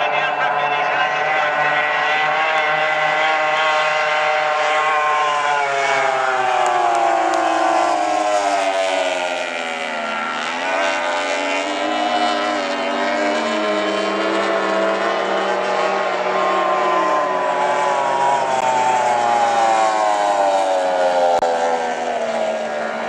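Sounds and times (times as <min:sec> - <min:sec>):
racing outboard engines at high revs: 0:00.0 - 0:23.0.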